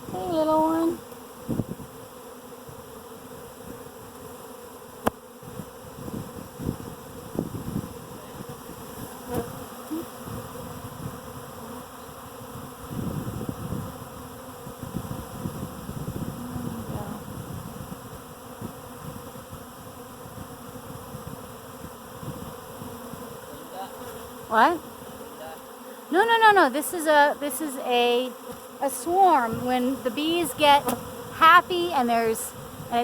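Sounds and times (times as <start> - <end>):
bee swarm buzzing: 0.0 - 33.0
bees flying past: 0.0 - 33.0.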